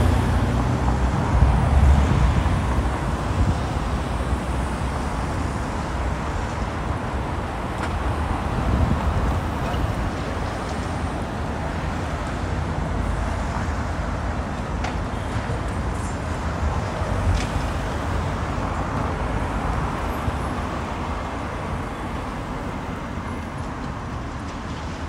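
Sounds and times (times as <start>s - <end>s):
city street traffic: 0.0s - 25.0s.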